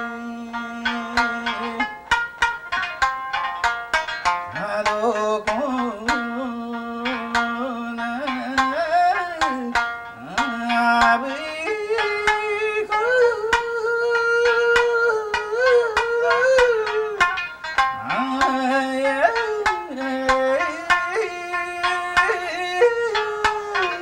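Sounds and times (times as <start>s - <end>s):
plucked lute: 0.0s - 24.0s.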